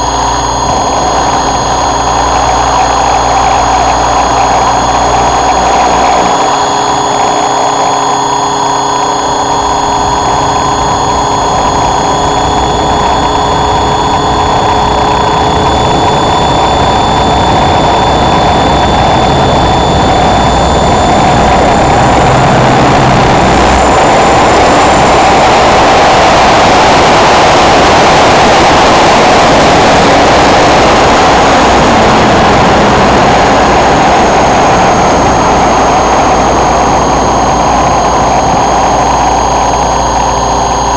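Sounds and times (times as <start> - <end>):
constant rushing noise: 0.0 - 40.9
helicopter rotor whine: 0.0 - 40.9.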